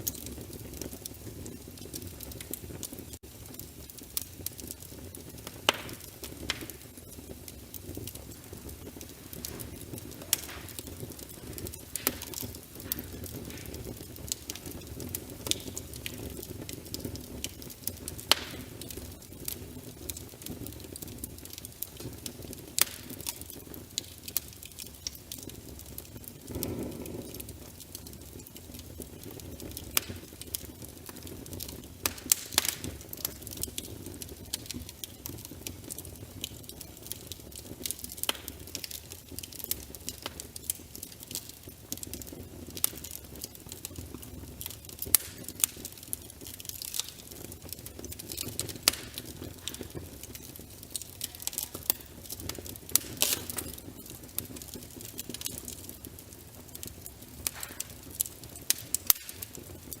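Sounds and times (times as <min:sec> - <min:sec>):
low rumble of burning logs: 0:00.0 - 1:00.0
wood fire crackling: 0:00.0 - 1:00.0.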